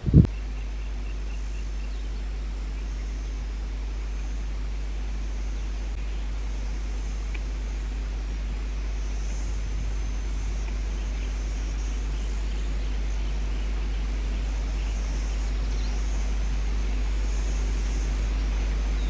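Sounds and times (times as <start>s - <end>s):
low rumble with hiss: 0.0s - 19.0s.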